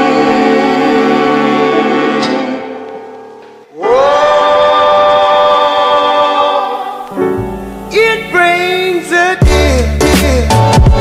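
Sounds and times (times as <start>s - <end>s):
background music with singing: 0.0s - 11.0s.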